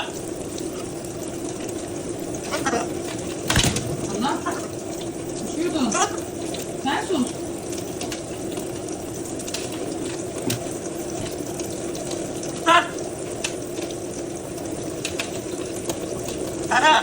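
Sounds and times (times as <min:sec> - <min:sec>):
light water splashes: 0:00.0 - 0:14.0
tap water running: 0:00.0 - 0:17.0.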